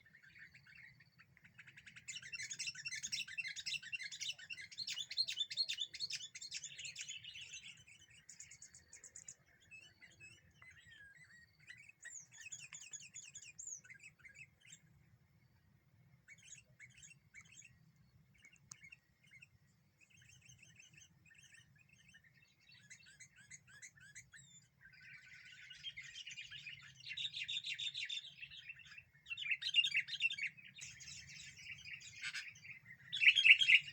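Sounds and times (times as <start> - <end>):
small birds chirping rapidly: 0.0 - 33.9.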